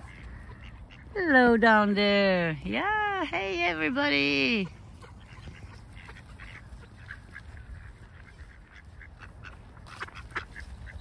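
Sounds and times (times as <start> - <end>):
ducks quacking: 0.0 - 2.2, 3.0 - 11.0.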